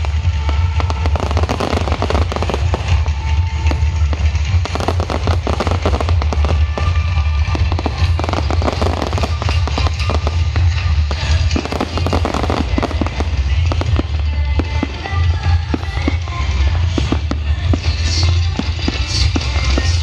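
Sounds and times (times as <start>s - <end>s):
fireworks crackling and popping: 0.0s - 20.0s
loud show music with heavy bass: 0.0s - 20.0s.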